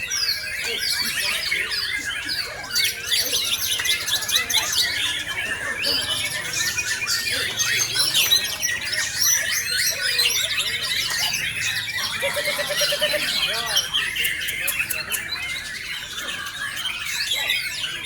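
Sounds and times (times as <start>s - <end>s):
bird singing whistles and chatters: 0.0s - 18.0s.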